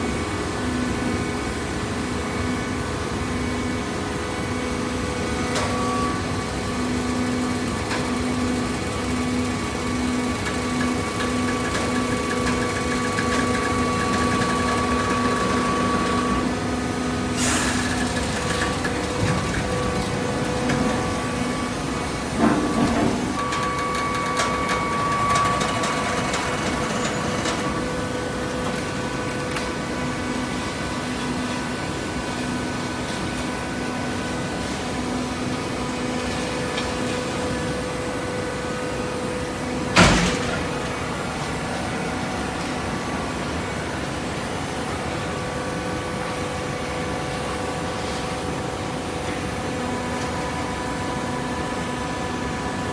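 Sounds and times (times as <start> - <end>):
machinery humming: 0.5 - 52.9.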